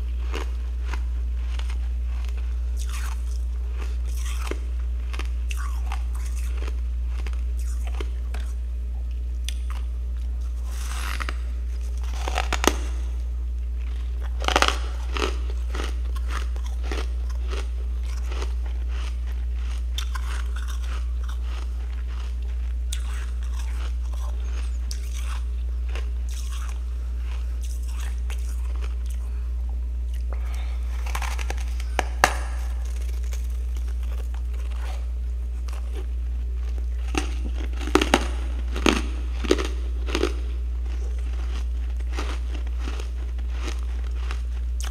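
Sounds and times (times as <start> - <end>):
ice crunching being chewed: 0.0 - 44.9
steady low hum: 0.0 - 44.9.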